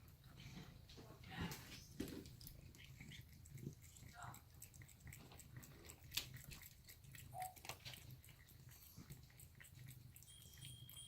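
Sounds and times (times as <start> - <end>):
cat chewing and biting: 1.8 - 11.0.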